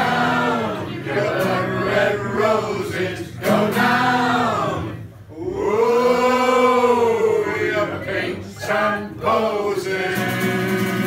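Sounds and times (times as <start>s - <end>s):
group of people singing a shanty: 0.0s - 11.0s.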